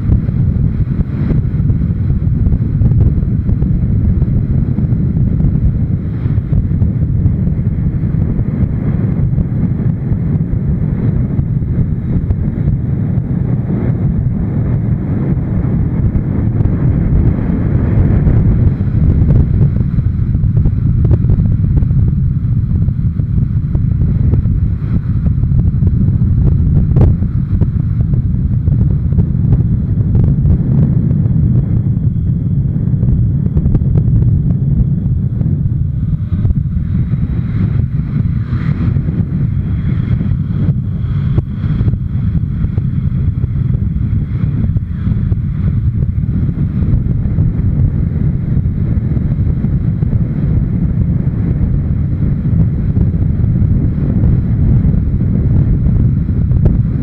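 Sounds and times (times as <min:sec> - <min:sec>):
motorcycle engine and tyre noise: 0:00.0 - 0:57.0
wind buffeting microphone: 0:00.0 - 0:57.0.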